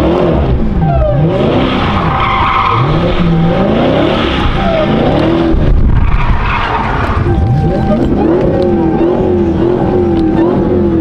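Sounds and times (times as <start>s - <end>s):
car engine revving: 0.0s - 11.0s
tires squealing: 0.0s - 11.0s.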